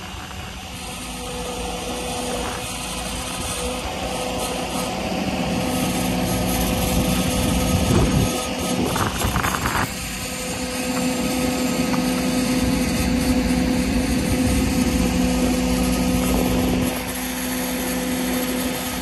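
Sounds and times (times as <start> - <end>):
diesel engine running: 0.0 - 19.0
hydraulic hum: 0.0 - 19.0.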